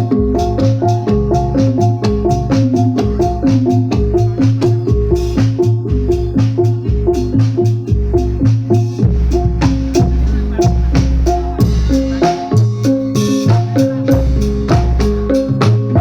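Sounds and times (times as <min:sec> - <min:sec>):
drum strokes: 0:00.0 - 0:16.0
metallophones ringing: 0:00.0 - 0:16.0.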